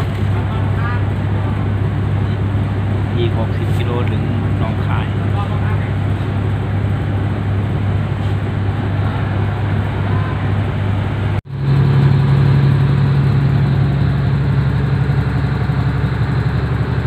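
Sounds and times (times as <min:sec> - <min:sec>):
train engine droning: 0:00.0 - 0:17.0.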